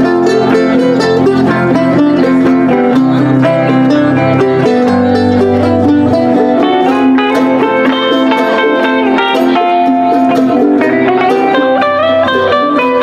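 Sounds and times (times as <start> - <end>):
picked guitar lead line: 0.0 - 13.0
strummed acoustic guitar: 0.0 - 13.0.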